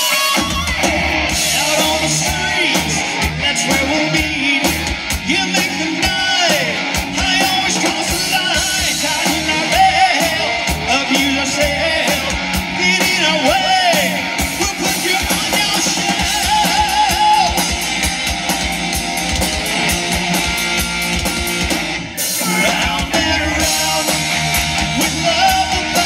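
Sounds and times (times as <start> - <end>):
bass guitar: 0.0 - 26.0
drum kit: 0.0 - 26.0
electric guitars: 0.0 - 26.0
singer singing into microphone: 0.1 - 17.7, 22.2 - 26.0.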